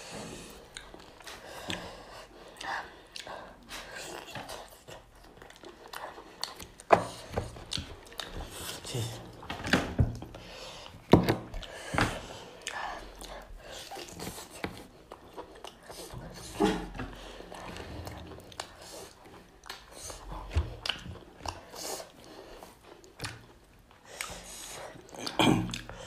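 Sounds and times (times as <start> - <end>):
wet chewing: 0.3 - 26.0.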